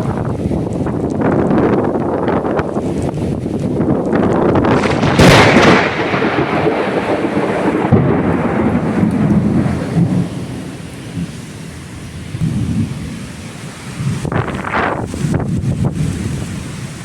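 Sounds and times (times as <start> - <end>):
thunder crack and rumble: 0.0 - 17.0.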